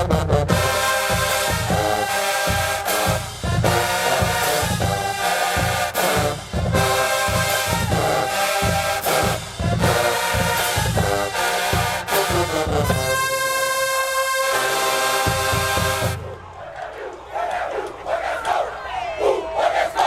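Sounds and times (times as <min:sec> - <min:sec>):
steady drum beat: 0:00.0 - 0:16.3
brass section playing chords: 0:00.0 - 0:16.5.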